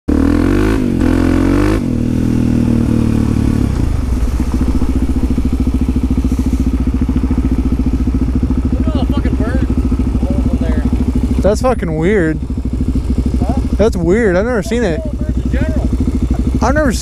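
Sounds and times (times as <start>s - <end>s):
motorcycle engine revving and idling: 0.1s - 17.0s.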